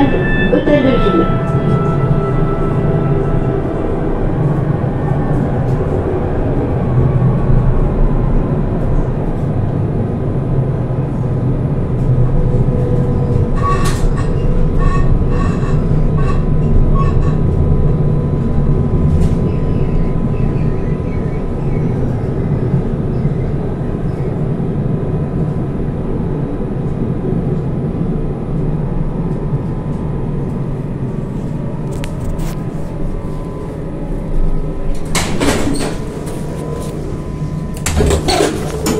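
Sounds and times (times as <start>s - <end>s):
tram running gear rumble: 0.0s - 38.9s.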